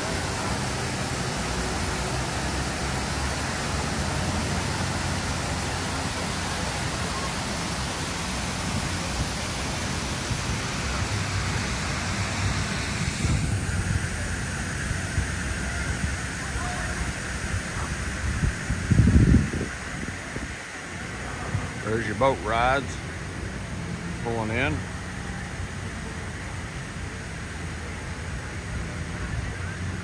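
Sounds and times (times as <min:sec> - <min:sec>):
misting jets spraying: 0:00.0 - 0:25.1
fountain water rushing: 0:00.0 - 0:30.0.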